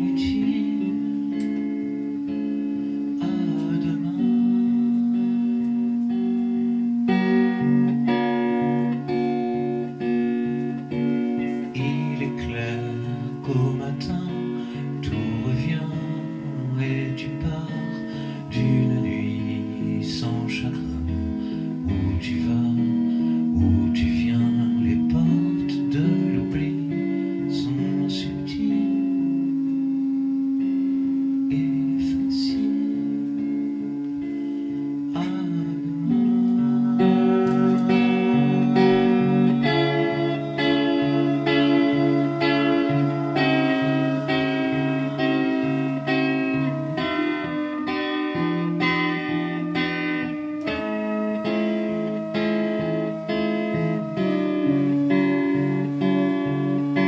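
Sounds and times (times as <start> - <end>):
person singing: 0.0 - 6.2, 7.1 - 29.8, 30.7 - 57.0
electric guitar: 0.0 - 57.0
keyboard playing: 0.0 - 57.0.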